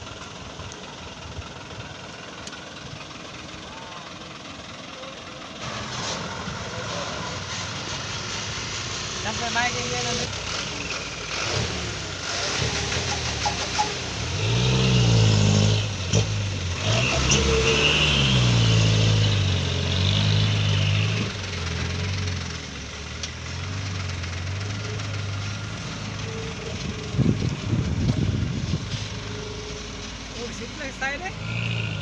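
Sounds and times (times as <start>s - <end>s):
diesel truck engine revving: 0.0s - 32.0s.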